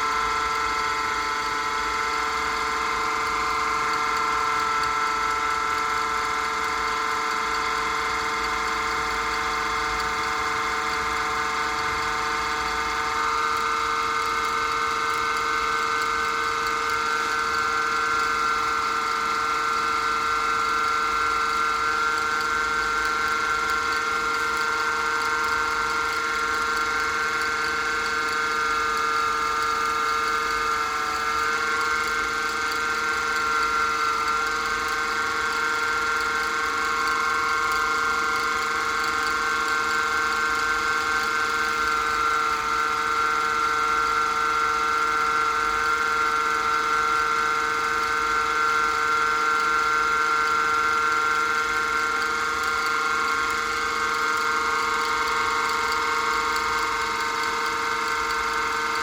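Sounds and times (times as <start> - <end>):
wood lathe motor whine: 0.0 - 59.0.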